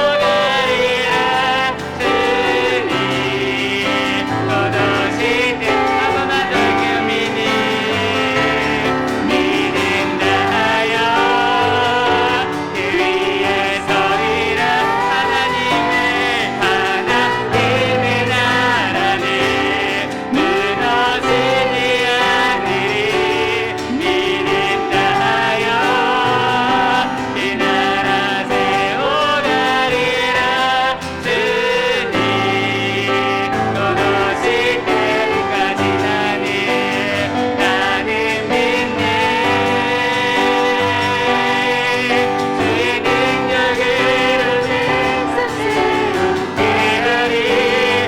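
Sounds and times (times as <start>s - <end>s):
group singing worship song: 0.0s - 48.0s
piano accompaniment: 0.0s - 48.0s.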